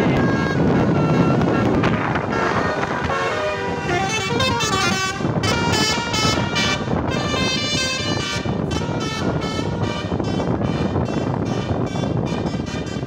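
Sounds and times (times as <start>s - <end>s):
multi-tone air horn tune: 0.0s - 13.0s
road traffic noise: 0.0s - 13.0s.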